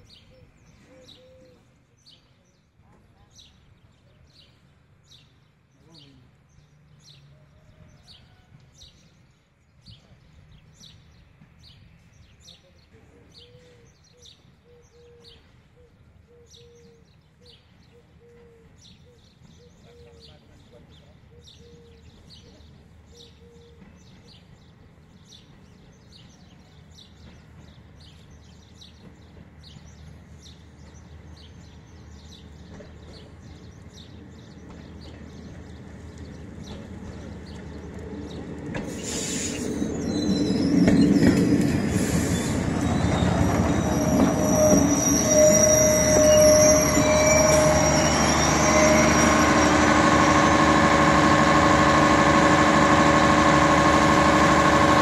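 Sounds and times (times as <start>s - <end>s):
diesel railcar engine hum: 0.0s - 55.0s
birds chirping: 3.3s - 50.5s.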